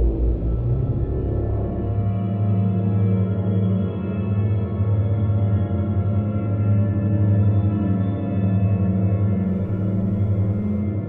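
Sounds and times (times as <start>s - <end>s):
low ambient drone: 0.0s - 11.0s.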